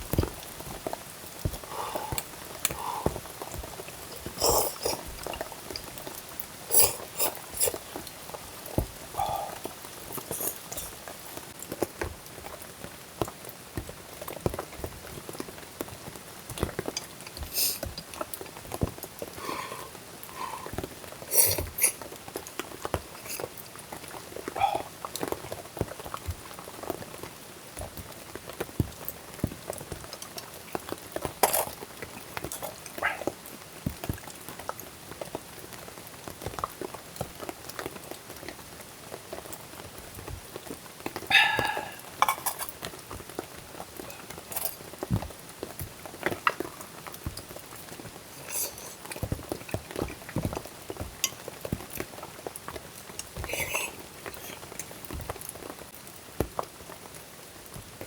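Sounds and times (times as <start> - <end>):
light rain patter: 0.0 - 58.0
rain drops dripping: 0.0 - 58.0.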